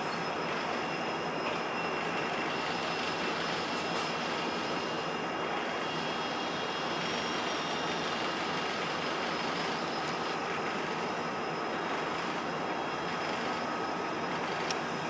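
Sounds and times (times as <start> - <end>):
high wheel squeal: 0.0 - 15.0
train rolling roar: 0.0 - 15.0.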